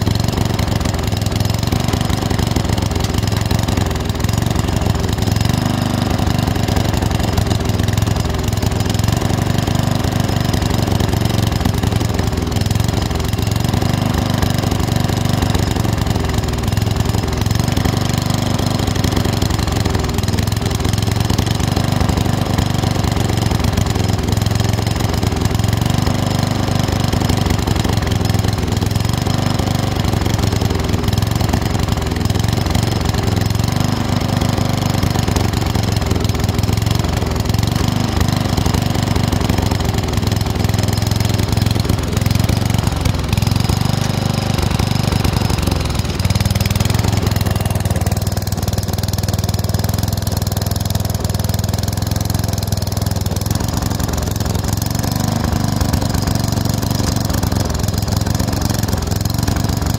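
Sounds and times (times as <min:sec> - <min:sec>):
lawn tractor engine idling: 0:00.0 - 0:59.9.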